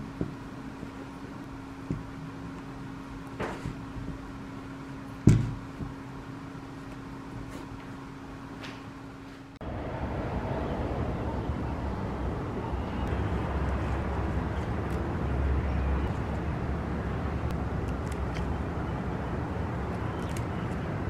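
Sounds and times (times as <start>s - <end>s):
city hum: 0.0s - 21.0s.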